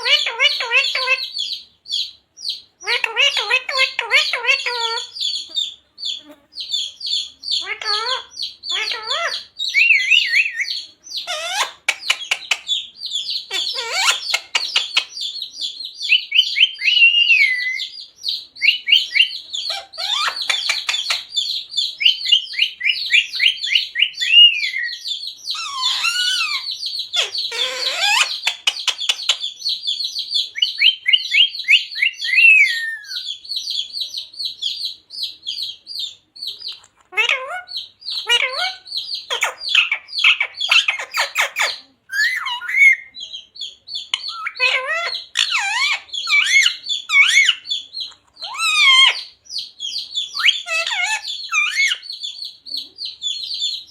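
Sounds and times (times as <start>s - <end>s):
parrot chattering: 0.0s - 1.6s, 2.8s - 15.4s, 18.5s - 33.9s, 36.5s - 43.3s, 44.0s - 53.9s.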